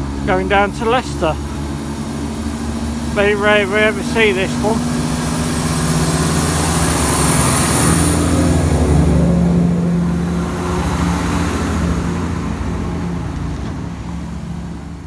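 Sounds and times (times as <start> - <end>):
train diesel engines running: 0.0 - 15.0.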